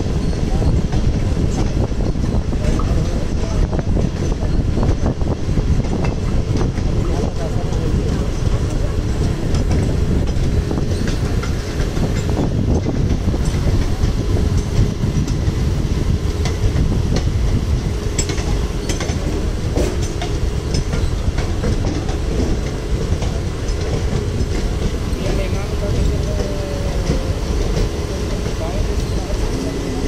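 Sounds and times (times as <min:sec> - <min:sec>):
train wheels rumbling on rails: 0:00.0 - 0:30.0
wheels clicking over rail joints: 0:00.0 - 0:30.0.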